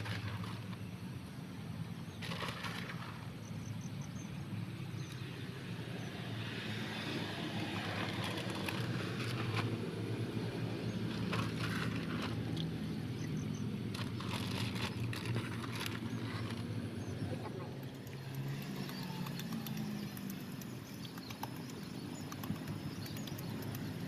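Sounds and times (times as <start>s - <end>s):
small engine humming: 0.0s - 24.0s.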